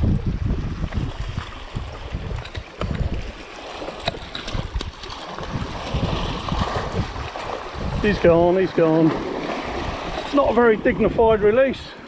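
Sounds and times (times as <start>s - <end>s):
wind buffeting microphone: 0.0s - 12.0s
waves lapping against rocks: 0.1s - 11.7s.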